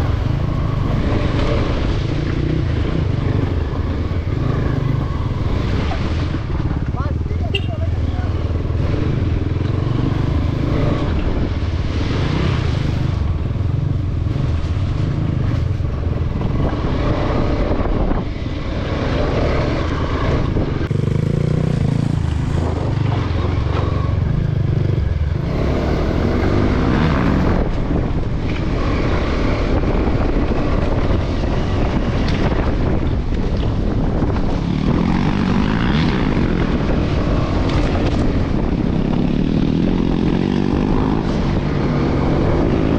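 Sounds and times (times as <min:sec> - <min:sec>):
motorcycle engine running: 0:00.0 - 0:12.2, 0:13.0 - 0:42.9.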